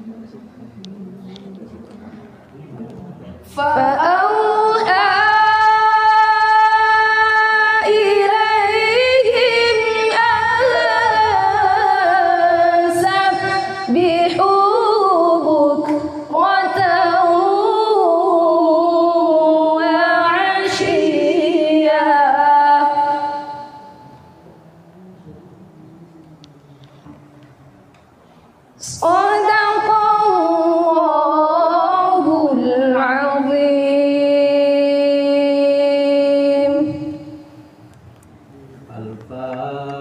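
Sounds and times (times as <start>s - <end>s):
person reciting melodically: 0.0s - 28.1s, 28.8s - 40.0s.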